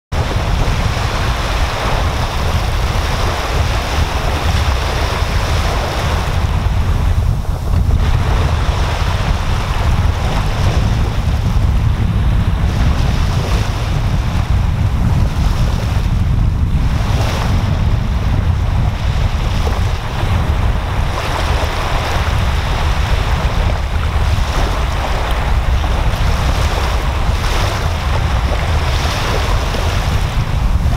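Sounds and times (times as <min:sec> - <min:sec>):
wind rumble on microphone: 0:00.1 - 0:30.9
waves breaking on beach: 0:00.2 - 0:30.9.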